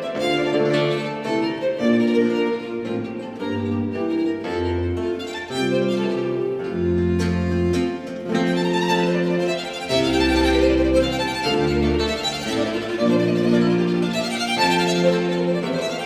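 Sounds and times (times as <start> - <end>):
violin melody over strings: 0.0 - 16.0.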